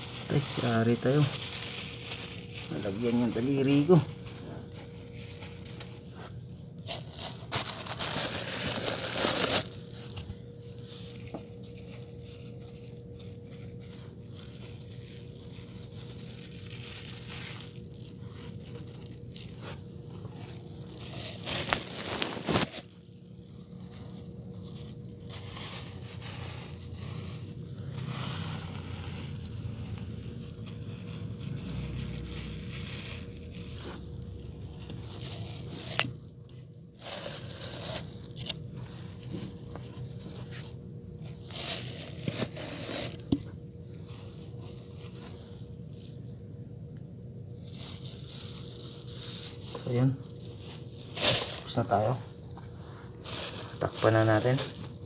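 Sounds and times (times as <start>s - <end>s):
plastic crinkling: 0.0s - 55.0s.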